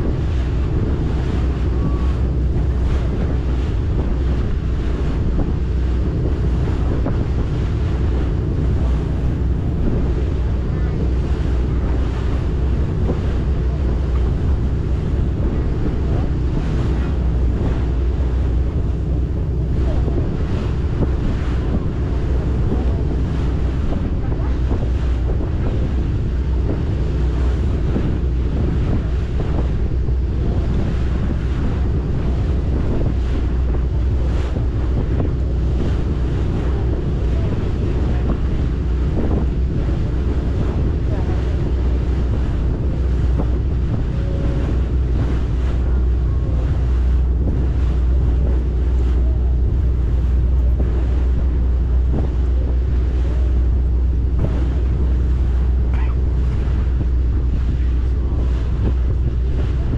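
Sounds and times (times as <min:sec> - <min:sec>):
boat engine droning: 0:00.0 - 0:59.9
water rushing past hull: 0:00.0 - 0:59.9
wind buffeting microphone: 0:00.0 - 0:59.9.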